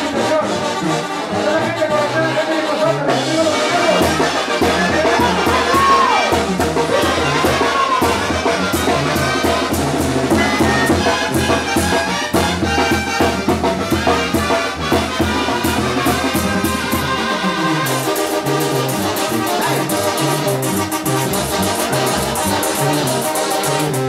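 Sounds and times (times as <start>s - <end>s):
brass band music with drums: 0.0s - 24.0s.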